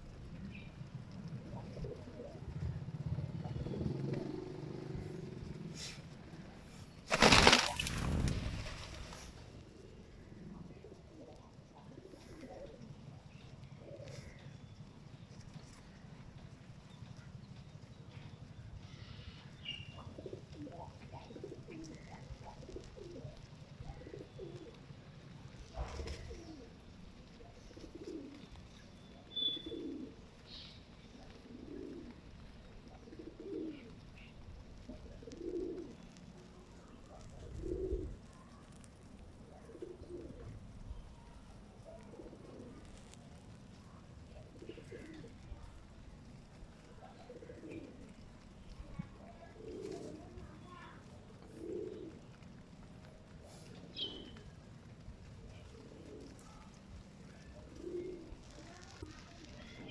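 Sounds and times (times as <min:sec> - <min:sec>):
pigeon cooing: 0:00.0 - 0:14.9, 0:18.9 - 0:59.9.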